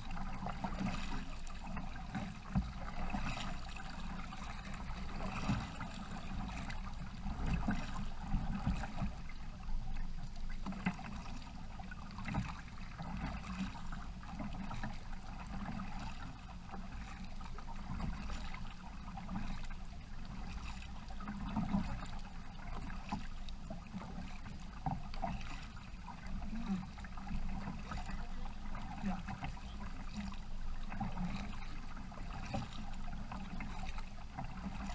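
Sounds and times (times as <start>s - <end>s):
low steady rumble: 0.0s - 34.9s
paddle splashing in water: 0.0s - 34.9s.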